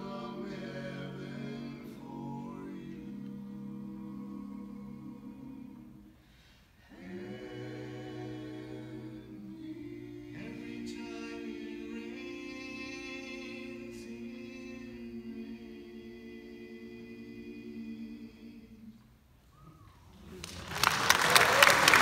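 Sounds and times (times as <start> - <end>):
men singing a cappella harmony: 0.0 - 6.2, 6.8 - 18.9.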